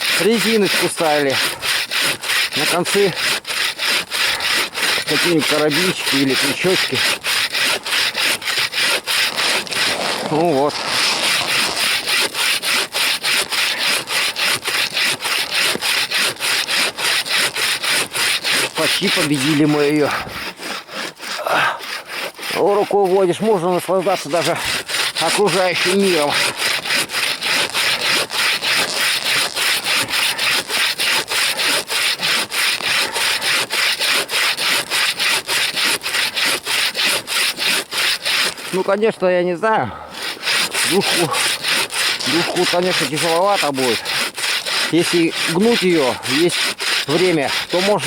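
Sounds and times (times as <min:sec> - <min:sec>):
bow saw cutting wood: 0:00.0 - 0:48.0.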